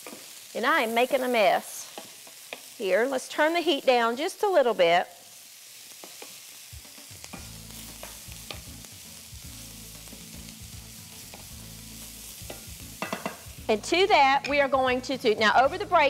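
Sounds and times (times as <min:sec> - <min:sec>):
food sizzling in a skillet: 0:00.0 - 0:16.0.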